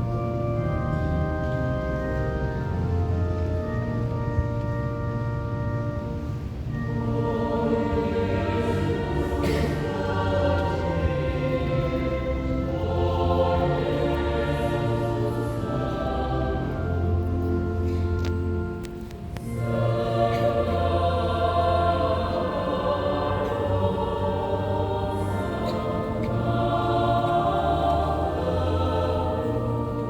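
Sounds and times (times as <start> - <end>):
organ accompaniment: 0.0 - 30.0
choir singing held chords: 5.9 - 30.0.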